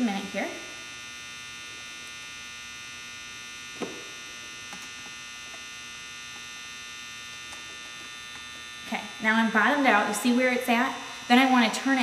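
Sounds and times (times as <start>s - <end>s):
electrical buzz and hum: 0.0s - 12.0s.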